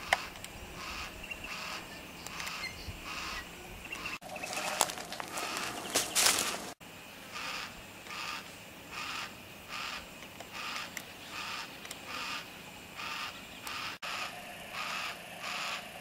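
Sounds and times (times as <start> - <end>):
cockatoo rasping calls: 0.0 - 6.7, 7.3 - 16.0.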